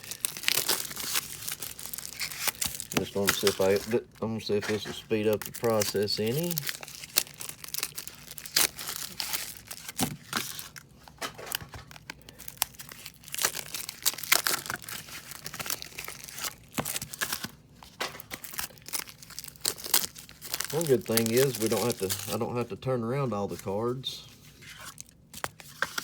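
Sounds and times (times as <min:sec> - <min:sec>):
cards and packaging crinkling: 0:00.0 - 0:26.0.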